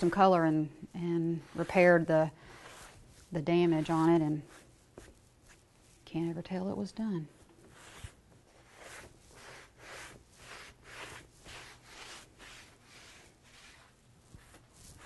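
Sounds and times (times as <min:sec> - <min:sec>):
rag wiping a board: 0:00.0 - 0:06.0, 0:07.6 - 0:15.0.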